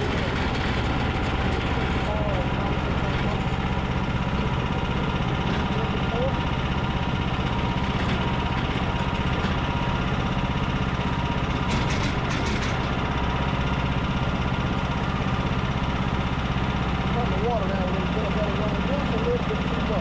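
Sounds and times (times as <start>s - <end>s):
sawmill engine running: 0.0s - 20.0s.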